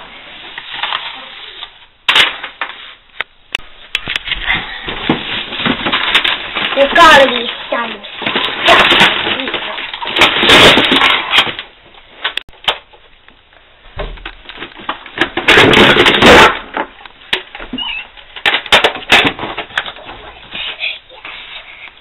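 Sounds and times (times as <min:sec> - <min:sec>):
rustling and clattering toys: 0:00.0 - 0:03.2, 0:03.8 - 0:13.1, 0:13.9 - 0:22.0.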